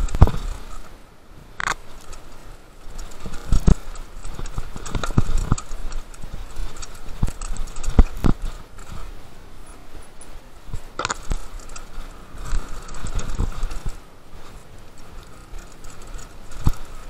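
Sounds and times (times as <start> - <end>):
mountain bike clattering: 0.0 - 17.0.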